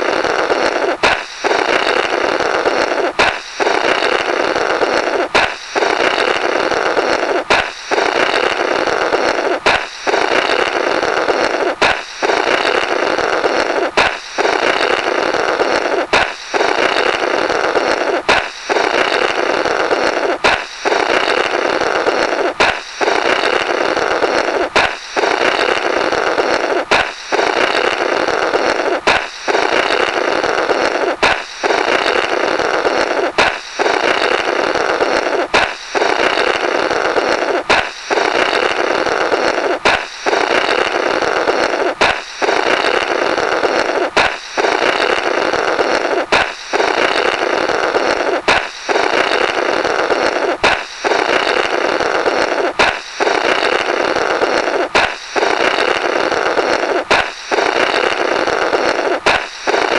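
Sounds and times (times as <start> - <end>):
balloon pop: 0.0 - 4.3, 4.9 - 30.2, 30.8 - 40.9, 41.5 - 54.0, 54.6 - 59.9
raspy buzzing blow through rubber: 0.0 - 59.9.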